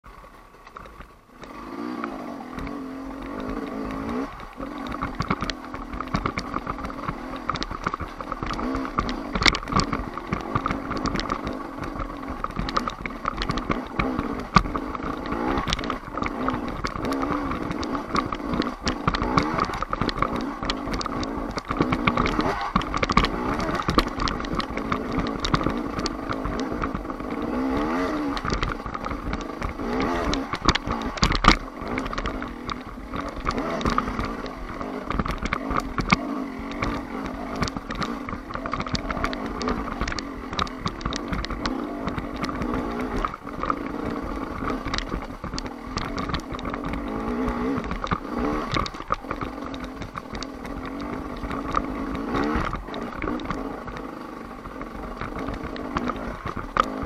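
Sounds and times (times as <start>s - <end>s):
rocks knocking under motorcycle: 0.0s - 57.0s
two-stroke motorcycle engine revving: 0.8s - 57.0s.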